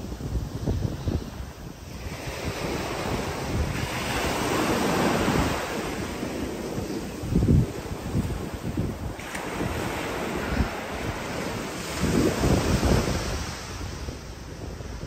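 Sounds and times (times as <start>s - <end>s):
sea waves breaking on shore: 0.0s - 15.0s
wind buffeting microphone: 0.0s - 15.0s.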